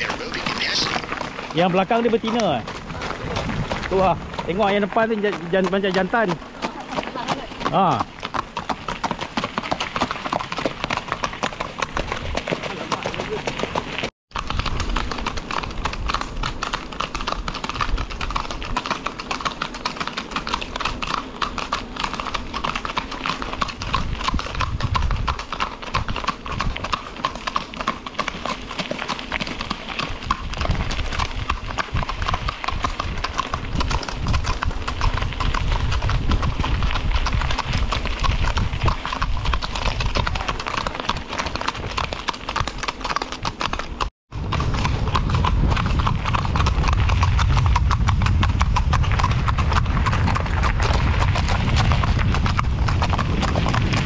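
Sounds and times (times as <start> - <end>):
horse hooves clip-clopping on pavement: 0.0 - 54.0.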